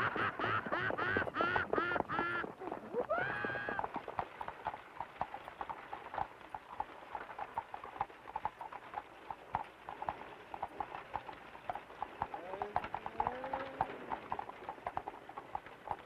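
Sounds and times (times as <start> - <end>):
horse hooves clip-clopping on road: 0.0 - 16.0.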